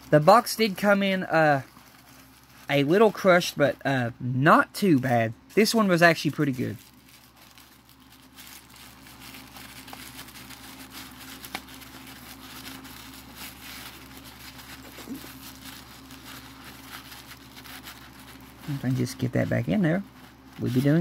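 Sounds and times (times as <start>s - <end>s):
packing paper crinkling: 0.0s - 21.0s
steady low hum: 0.0s - 21.0s.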